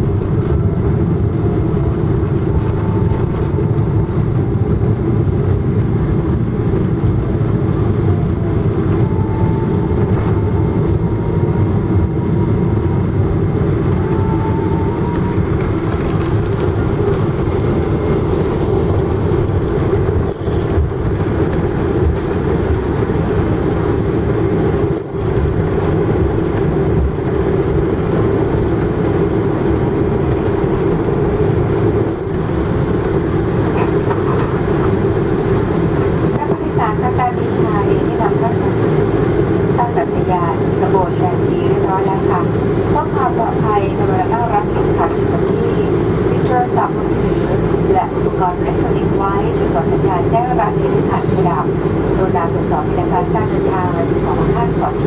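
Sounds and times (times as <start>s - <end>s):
aircraft engines rumbling: 0.0s - 55.0s.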